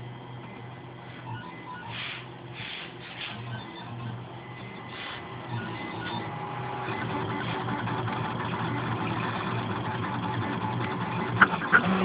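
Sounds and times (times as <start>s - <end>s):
printer stepper motors whirring: 0.0s - 12.0s.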